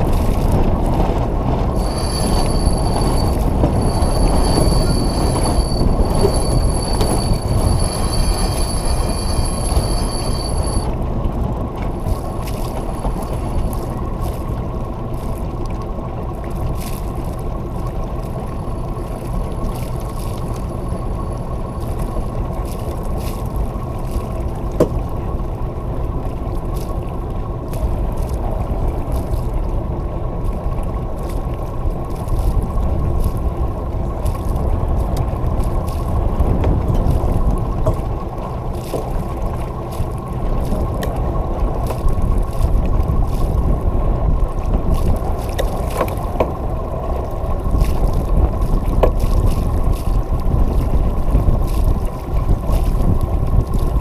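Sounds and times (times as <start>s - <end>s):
water washing along hull: 0.0s - 54.0s
wind on microphone: 0.0s - 54.0s.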